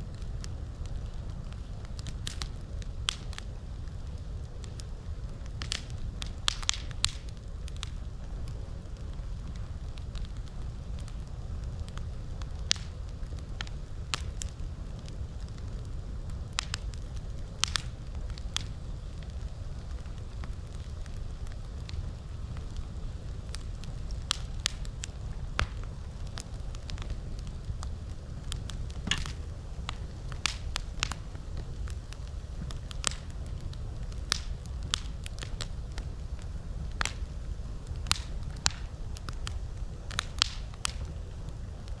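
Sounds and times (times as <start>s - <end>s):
campfire crackling and snapping: 0.0s - 42.0s
steady low rumble: 0.0s - 42.0s.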